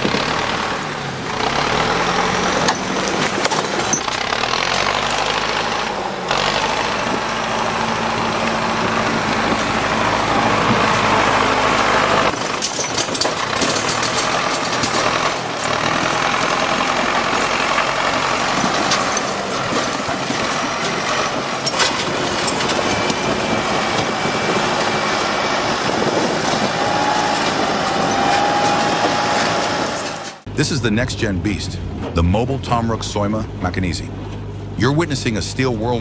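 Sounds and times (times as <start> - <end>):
heavy machine engine under load: 0.0 - 36.0.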